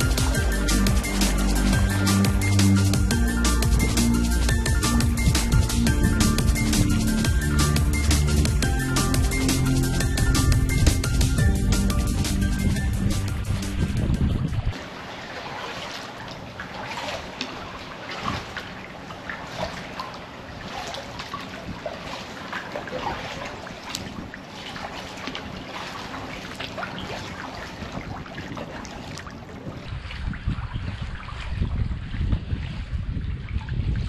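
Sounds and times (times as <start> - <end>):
paddle drips and splashes: 0.0 - 11.4, 13.1 - 34.0
water lapping around kayak hull: 0.0 - 34.0.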